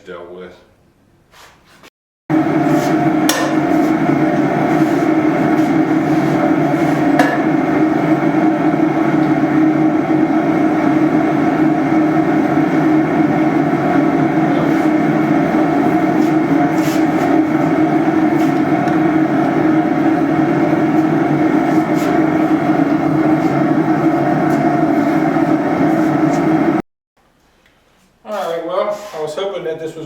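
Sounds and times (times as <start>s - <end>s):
forge running: 2.3s - 26.8s.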